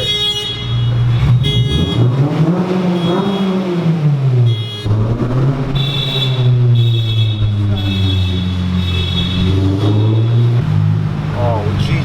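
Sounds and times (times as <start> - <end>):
car exhaust droning and revving: 0.0 - 12.0.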